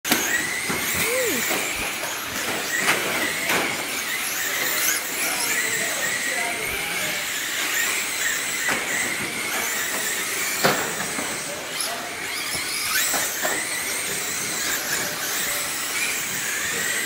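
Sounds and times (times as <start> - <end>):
rc car motors whining: 0.1 - 17.0.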